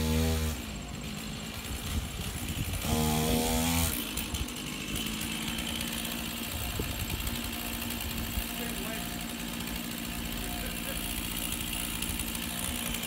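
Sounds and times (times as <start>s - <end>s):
chainsaw revving and idling: 0.0s - 13.0s.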